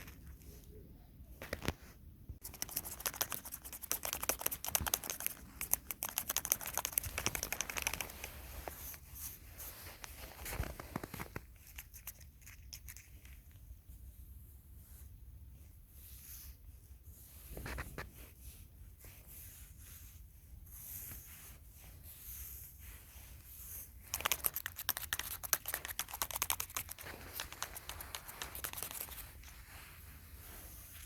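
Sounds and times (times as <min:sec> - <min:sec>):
soft rustling and crinkling: 0:00.0 - 0:31.0.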